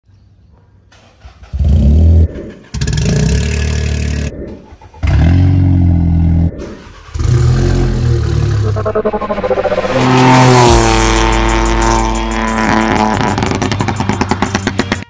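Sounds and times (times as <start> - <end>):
car engines starting loudly: 0.9 - 15.0.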